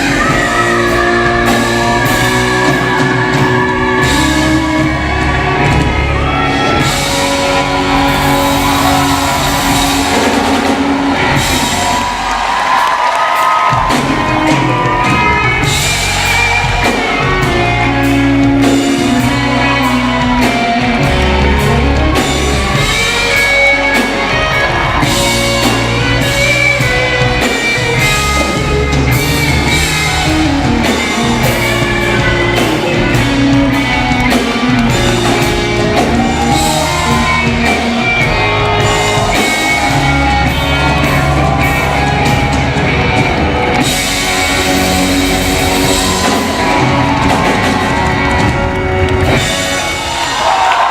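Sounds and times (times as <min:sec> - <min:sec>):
bass: 0:00.0 - 0:50.9
drums keeping a beat: 0:00.0 - 0:50.9
electric guitar: 0:00.0 - 0:50.9.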